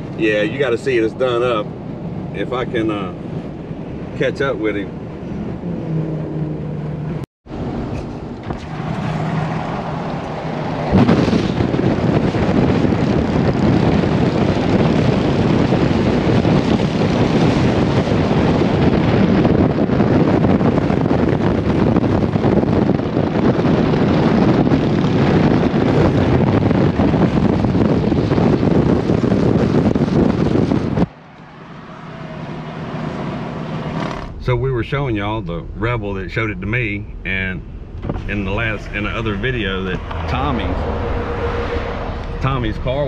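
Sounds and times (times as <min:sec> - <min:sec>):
road and traffic noise: 0:00.0 - 0:43.0
wind buffeting microphone: 0:00.0 - 0:43.0.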